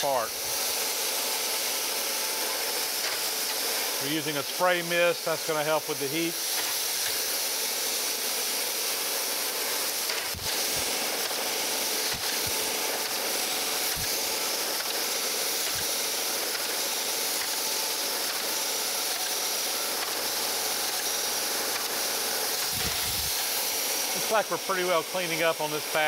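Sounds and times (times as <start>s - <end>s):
grinder wheel and coolant mist hiss: 0.0s - 26.0s.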